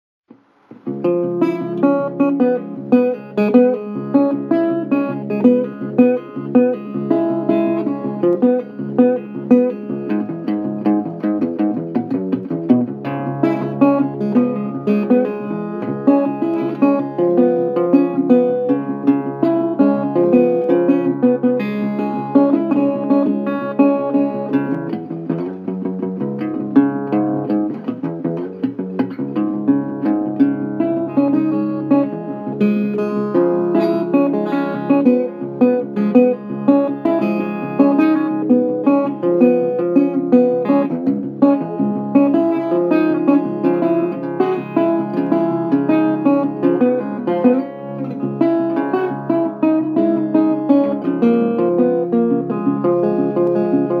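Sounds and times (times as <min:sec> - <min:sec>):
plucked guitar music: 0:00.3 - 0:54.0.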